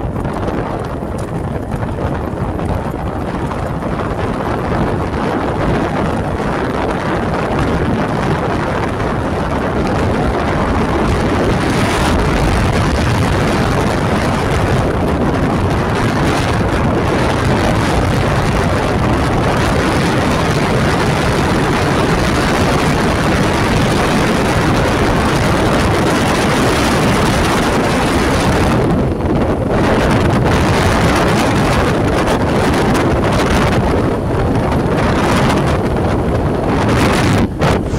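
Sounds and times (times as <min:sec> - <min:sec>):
vehicle running and road noise: 0:00.0 - 0:37.9
wind buffeting microphone: 0:00.0 - 0:37.9.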